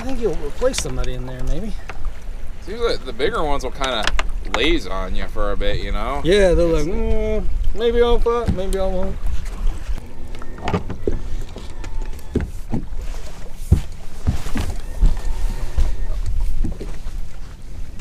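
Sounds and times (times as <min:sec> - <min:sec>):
small waves slapping hull: 0:00.0 - 0:06.5, 0:07.1 - 0:18.0.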